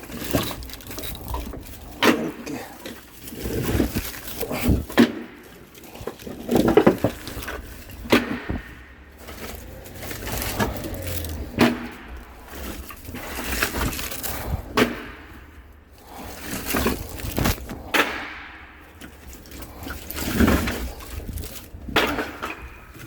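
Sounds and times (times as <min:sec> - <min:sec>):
firewood pieces knocking together: 0:00.0 - 0:23.0
wood scraping and rustling: 0:00.0 - 0:23.0.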